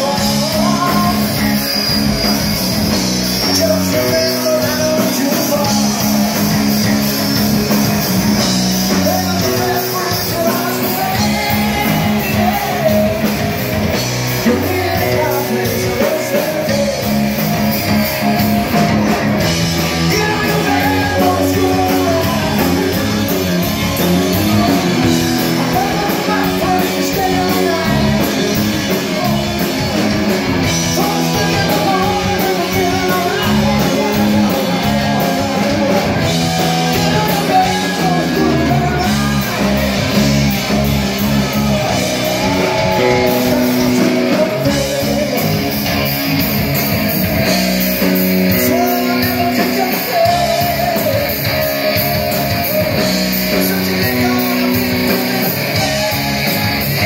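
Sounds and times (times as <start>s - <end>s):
person singing: 0.0s - 2.4s, 3.3s - 7.4s, 8.6s - 46.1s, 47.1s - 57.0s
bass guitar: 0.0s - 57.0s
drum kit: 0.0s - 57.0s
electric guitar: 0.0s - 57.0s.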